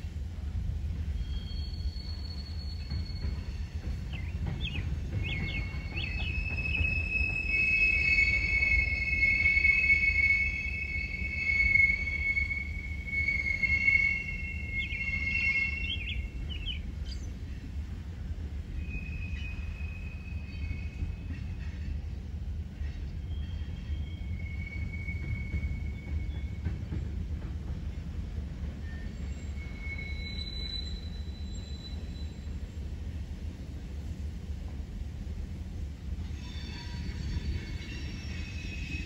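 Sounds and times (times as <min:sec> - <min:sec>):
train rumbling: 0:00.0 - 0:39.0
train wheels squealing: 0:00.9 - 0:17.6, 0:18.5 - 0:32.9, 0:36.2 - 0:39.0.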